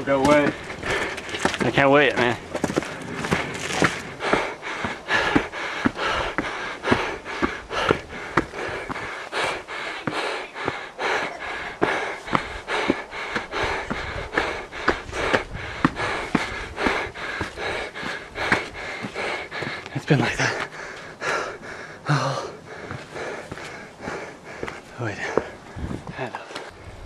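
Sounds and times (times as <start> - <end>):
footsteps on sandy dirt: 0.0 - 21.7, 22.6 - 26.8
heavy breathing: 0.3 - 26.8.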